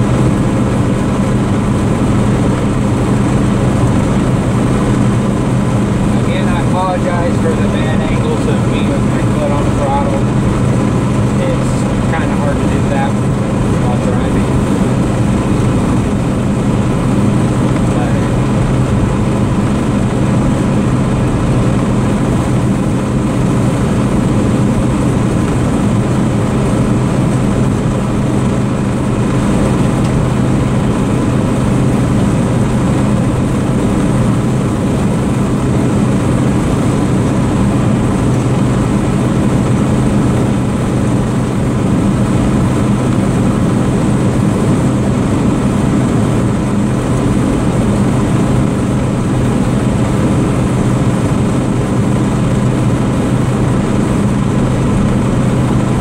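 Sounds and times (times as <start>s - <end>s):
truck engine drone: 0.0s - 56.0s
road noise: 1.8s - 56.0s.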